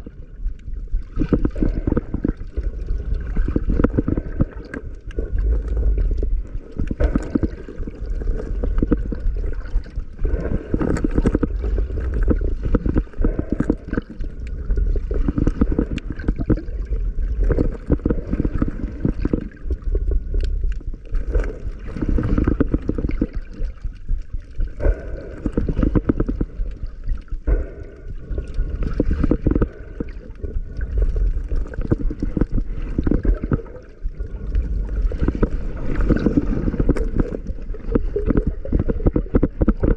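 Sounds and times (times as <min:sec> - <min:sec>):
clicks and gurgling: 0:00.0 - 0:39.9
underwater rush of water: 0:00.0 - 0:39.9.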